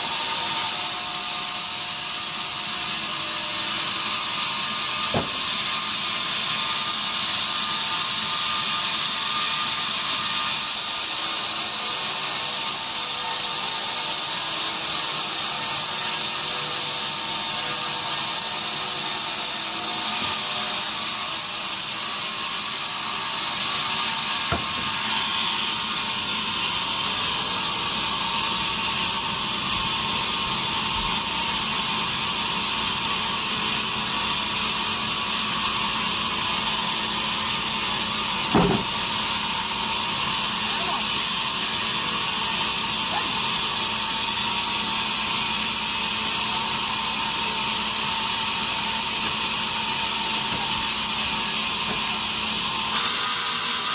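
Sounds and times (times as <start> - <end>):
bandsaw machinery running: 0.0 - 53.9.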